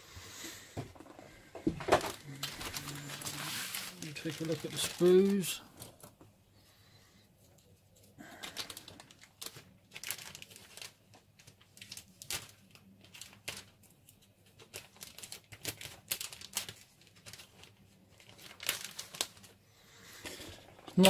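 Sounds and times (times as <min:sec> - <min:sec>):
plastic bag crinkling: 0:01.3 - 0:06.2, 0:08.2 - 0:21.0.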